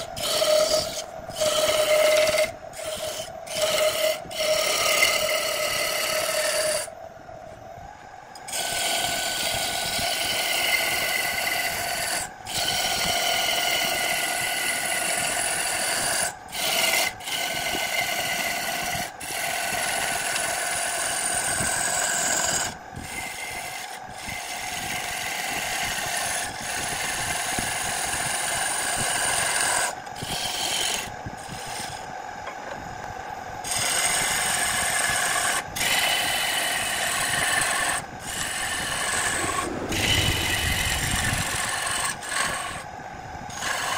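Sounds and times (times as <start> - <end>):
lathe tool scraping wood: 0.0 - 6.9, 8.4 - 32.8, 33.6 - 42.9, 43.5 - 43.9.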